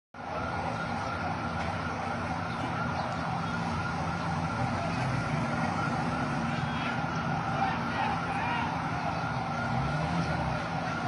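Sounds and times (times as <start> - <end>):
city street traffic noise: 0.2 - 11.0.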